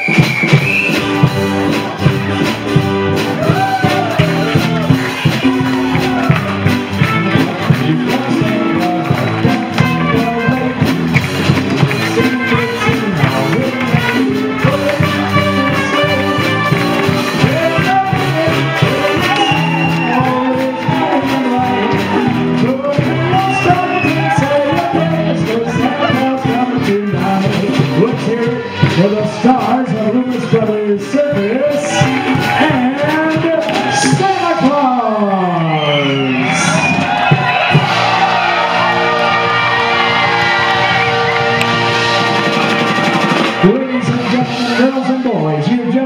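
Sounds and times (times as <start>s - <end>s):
loud music with singing: 0.0s - 46.0s.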